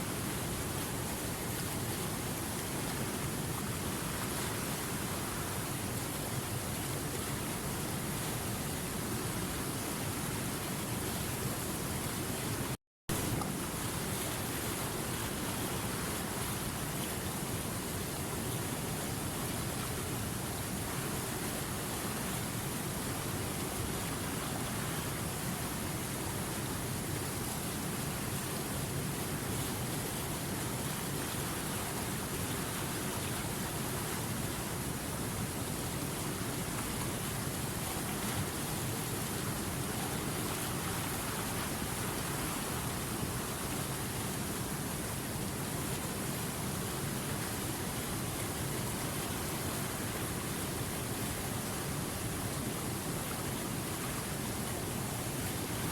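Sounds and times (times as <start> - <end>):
river water rushing: 0.1 - 55.9.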